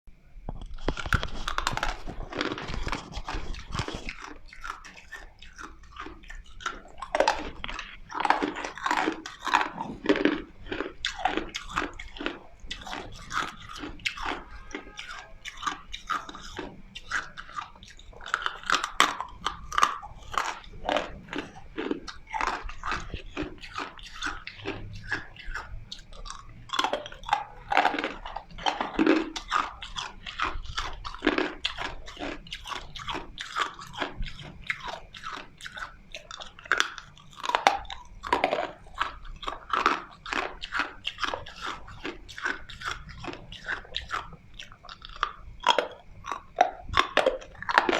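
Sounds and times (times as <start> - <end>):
person crunching ice: 0.6 - 25.6, 26.2 - 35.4, 36.3 - 43.4.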